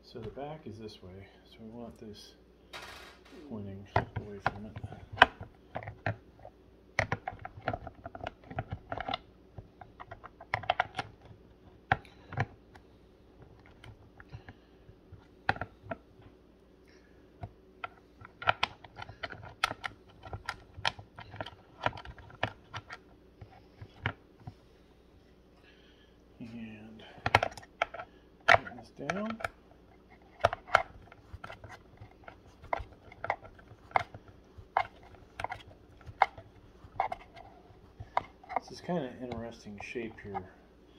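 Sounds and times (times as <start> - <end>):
plastic parts clicking and knocking: 2.8 - 6.2, 7.0 - 12.8, 13.4 - 16.4, 17.4 - 24.6, 27.2 - 40.5.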